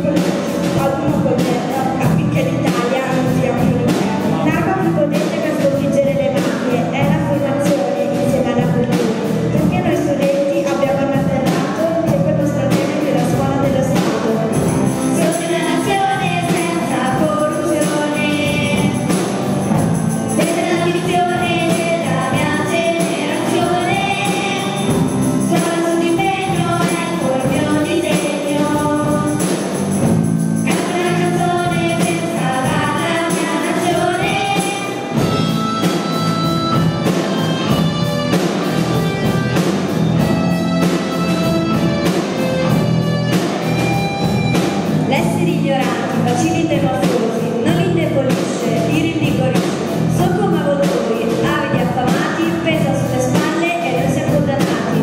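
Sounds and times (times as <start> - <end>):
girl singing into microphone: 0.0 - 29.7, 30.6 - 37.8, 45.0 - 55.0
band with electric guitars: 0.0 - 55.0.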